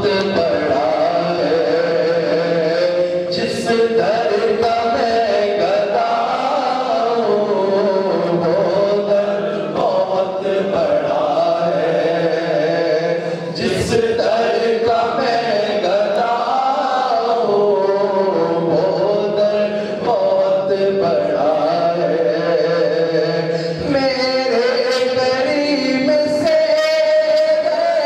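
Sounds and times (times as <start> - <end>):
man chanting into a microphone: 0.0 - 28.0.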